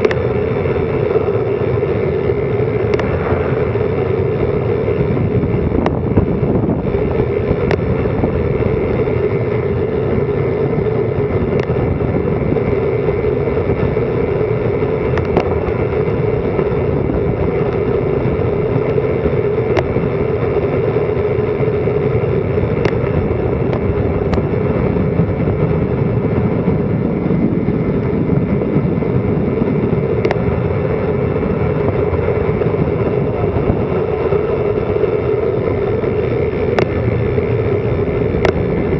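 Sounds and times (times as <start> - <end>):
sharp ticks: 0.0 - 16.8, 17.4 - 24.8, 30.1 - 30.7, 31.8 - 38.9
wind rushing over microphone: 0.0 - 38.9.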